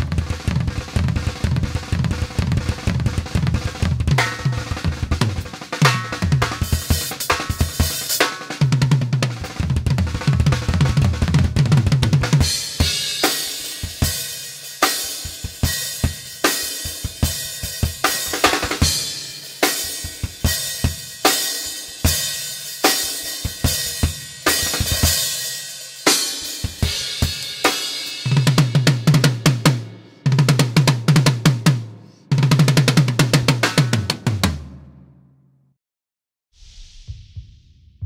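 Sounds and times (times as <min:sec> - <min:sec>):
drum kit playing: 0:00.0 - 0:35.1, 0:36.6 - 0:38.0.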